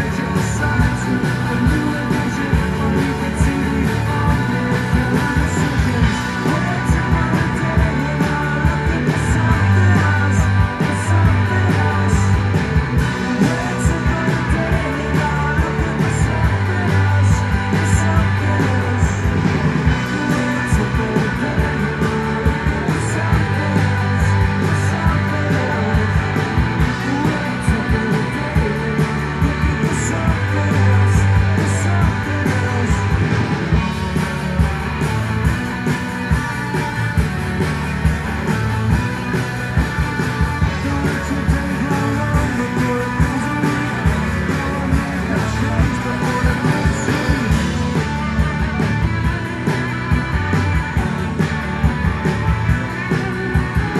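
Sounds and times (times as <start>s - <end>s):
pulsing bass line: 0.0s - 53.9s
rock band playing live: 0.0s - 53.9s.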